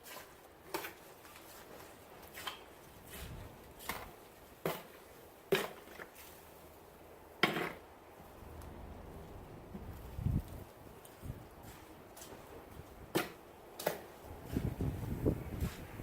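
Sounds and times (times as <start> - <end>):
wet soil being stirred: 0.0 - 16.0.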